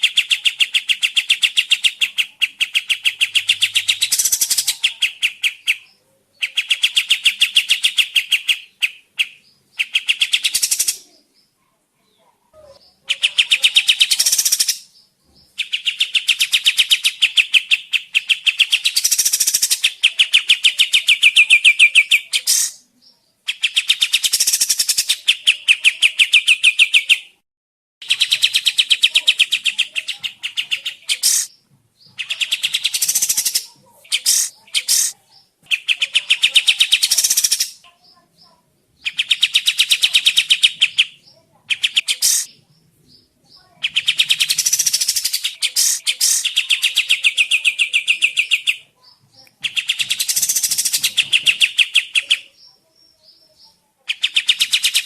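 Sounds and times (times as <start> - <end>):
songbird trilling: 0.0 - 11.1, 12.6 - 22.8, 23.5 - 27.3, 28.0 - 55.0.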